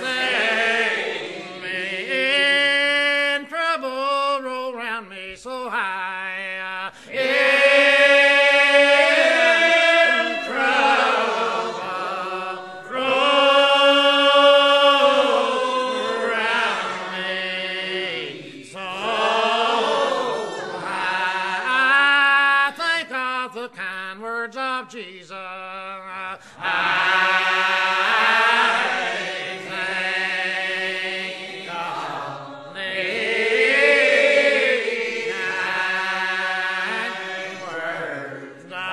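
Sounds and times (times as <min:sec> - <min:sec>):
group singing a slow hymn: 0:00.0 - 0:38.9.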